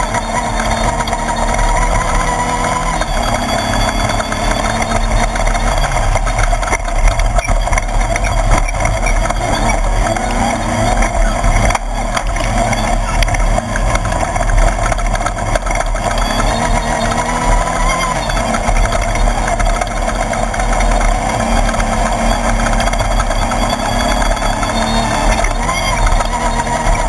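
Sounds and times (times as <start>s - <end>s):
buggy engine running: 0.0s - 27.0s
knocks and rattles: 0.0s - 27.0s.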